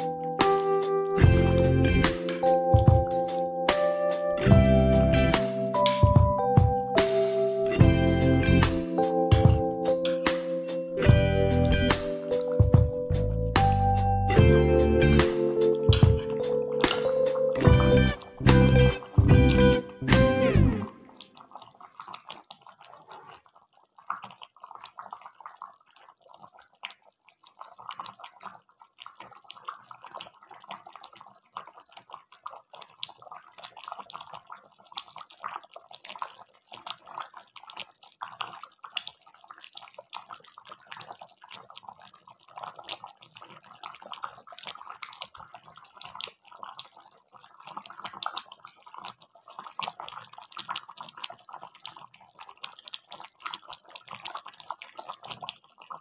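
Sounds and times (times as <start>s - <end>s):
curry bubbling with small pops: 0.0s - 4.5s, 5.3s - 56.0s.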